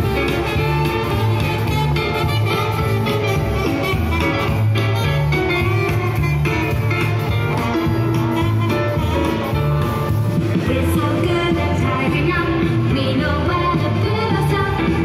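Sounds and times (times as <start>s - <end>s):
music over loudspeaker: 0.0s - 15.0s.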